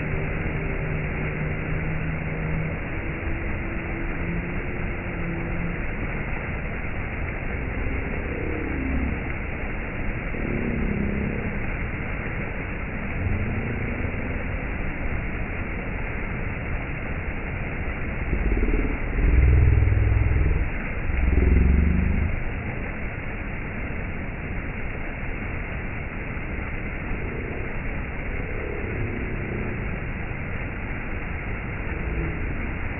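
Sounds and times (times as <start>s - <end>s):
low rumble: 0.0s - 32.9s
waterfall roaring: 0.0s - 32.9s.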